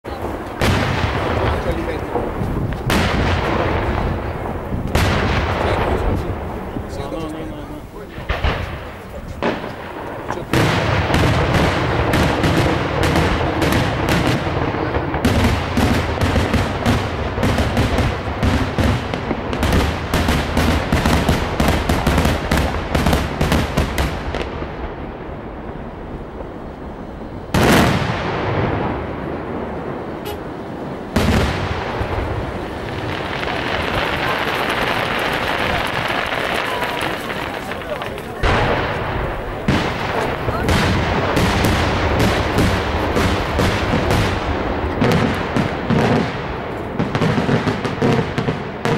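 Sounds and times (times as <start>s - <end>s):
fireworks bursting with crackling bangs: 0.0s - 48.9s
heavy firework bangs: 0.0s - 48.9s.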